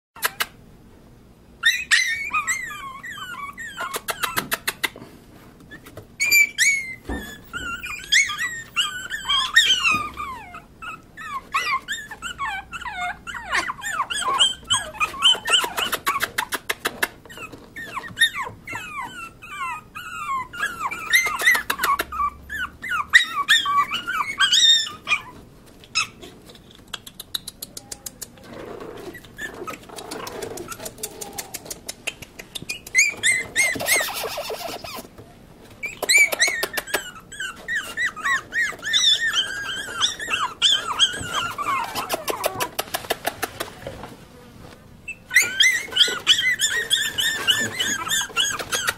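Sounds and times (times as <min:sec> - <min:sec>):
puppies whimpering and yipping: 0:01.6 - 0:05.0, 0:05.7 - 0:26.7, 0:28.8 - 0:31.8, 0:32.5 - 0:43.6, 0:45.0 - 0:48.9.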